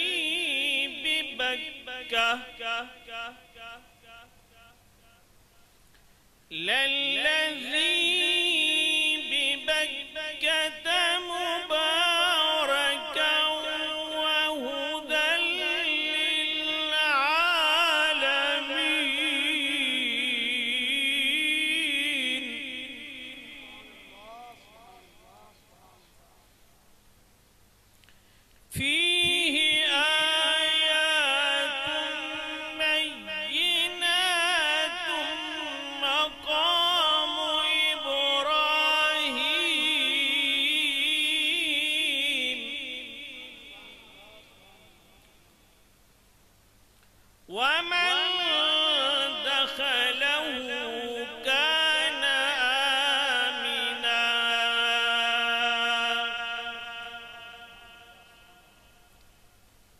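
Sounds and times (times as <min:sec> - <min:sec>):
man chanting through microphone: 0:00.0 - 0:05.6, 0:06.5 - 0:26.8, 0:28.7 - 0:45.8, 0:47.4 - 0:59.2.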